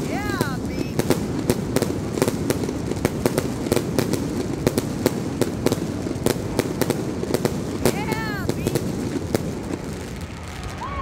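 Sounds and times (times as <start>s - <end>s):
distant explosions din: 0.0s - 11.0s
fireworks bangs and crackles: 0.0s - 11.0s.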